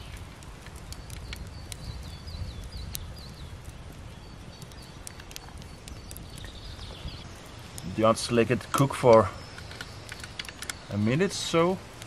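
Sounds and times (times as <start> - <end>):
campfire crackling and popping: 0.0 - 12.0
bird chirping: 0.9 - 11.6.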